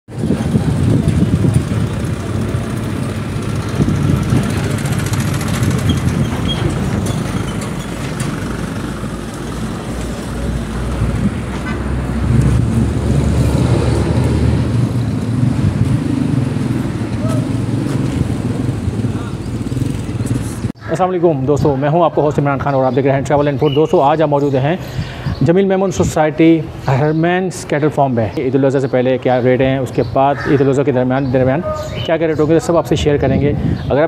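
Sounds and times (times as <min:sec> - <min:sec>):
traffic rumble: 0:00.1 - 0:34.0.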